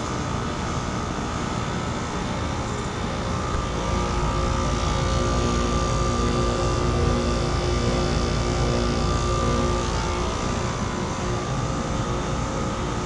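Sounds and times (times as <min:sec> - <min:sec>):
compressor hum: 0:00.0 - 0:13.0
heat pump fan whoosh: 0:00.0 - 0:13.0
steady humming tones: 0:00.0 - 0:13.0.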